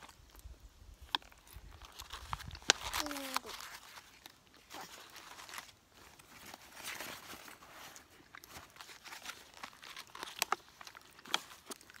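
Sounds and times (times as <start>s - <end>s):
food wrapping crinkling: 0.0s - 12.0s.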